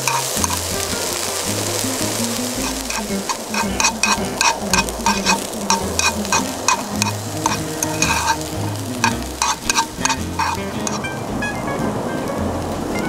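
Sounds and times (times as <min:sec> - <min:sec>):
chopsticks clicking against pan: 0:00.0 - 0:11.0
bean sprouts sizzling in a pan: 0:00.0 - 0:13.0.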